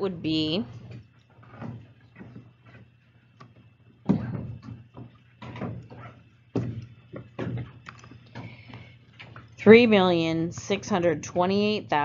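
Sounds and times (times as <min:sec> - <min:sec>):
faint low electrical hum: 0:00.0 - 0:12.0.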